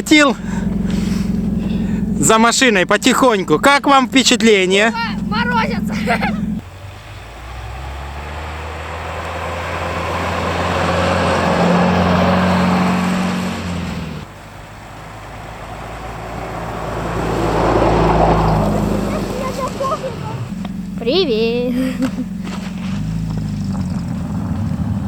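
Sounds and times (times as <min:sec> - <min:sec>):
car engine running: 0:00.0 - 0:25.0
rushing noise of travel: 0:00.0 - 0:25.0.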